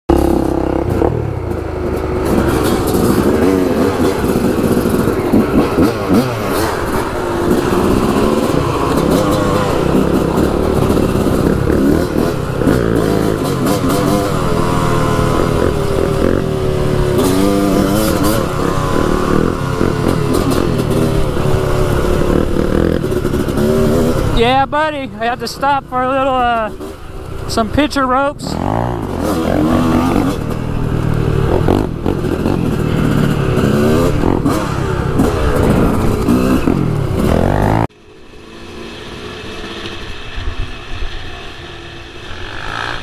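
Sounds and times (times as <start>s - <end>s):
dirt bike engine revving: 0.1s - 43.0s.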